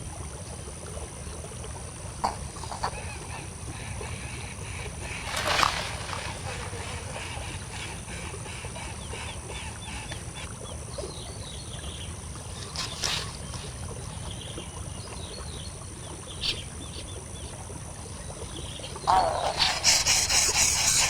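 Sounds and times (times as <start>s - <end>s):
high outdoor hiss: 0.0s - 21.0s.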